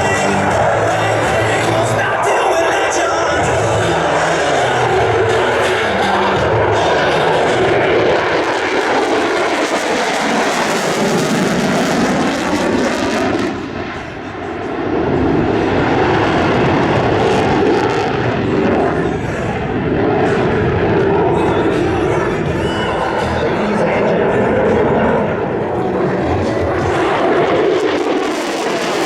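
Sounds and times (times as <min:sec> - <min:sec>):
airplane engine in flight: 0:00.0 - 0:29.0.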